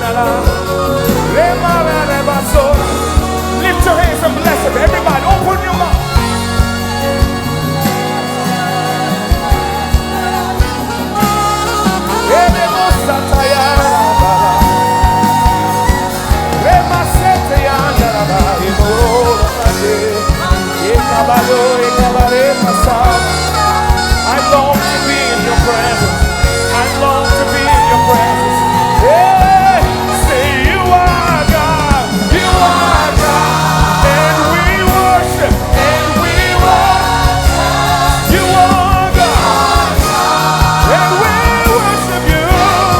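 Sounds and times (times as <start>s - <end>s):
gospel band with drums: 0.0s - 42.9s.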